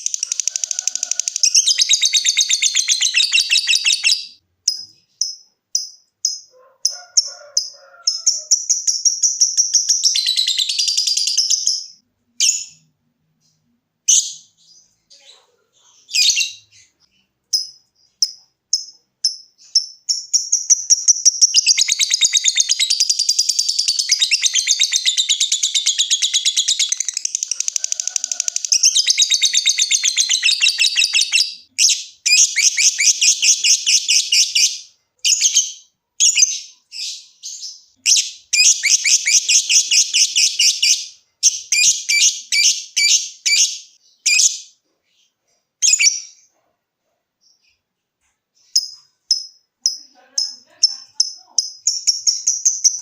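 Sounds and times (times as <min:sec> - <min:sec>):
lovebird chattering trill: 0:00.0 - 0:12.8, 0:17.5 - 0:44.7, 0:45.8 - 0:46.4, 0:48.7 - 0:53.0.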